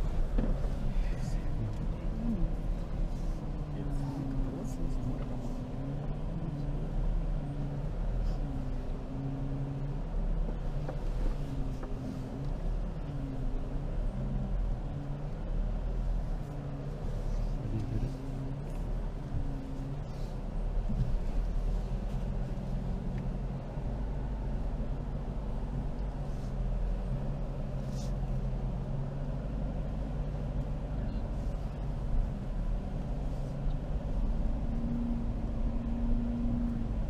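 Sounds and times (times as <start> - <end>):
low road rumble: 0.0 - 37.0.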